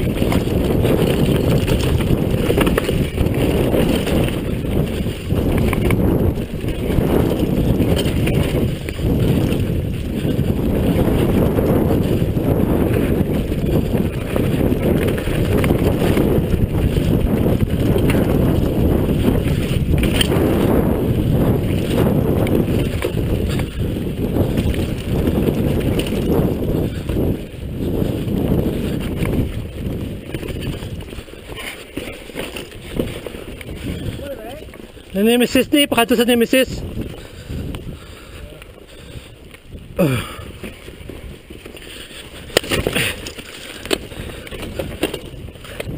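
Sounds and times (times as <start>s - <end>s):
bike clicks: 0.0s - 45.9s
tyres on dirt: 0.0s - 45.9s
wind rumbling on microphone: 0.0s - 45.9s.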